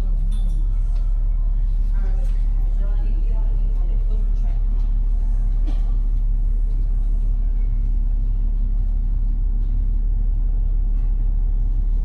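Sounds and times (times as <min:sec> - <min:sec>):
faint constant hum: 0:00.0 - 0:12.0
low droning machinery rumble: 0:00.0 - 0:12.0.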